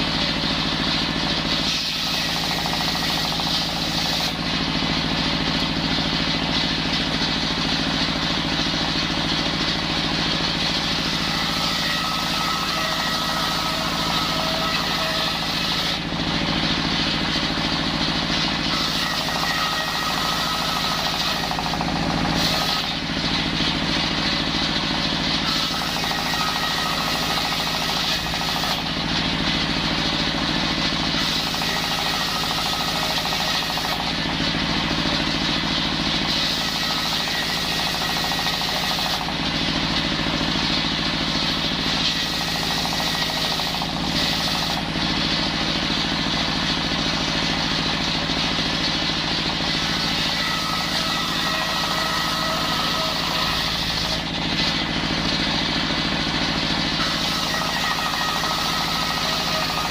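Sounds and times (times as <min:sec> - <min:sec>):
circular saw cutting timber: 0:00.0 - 0:59.9.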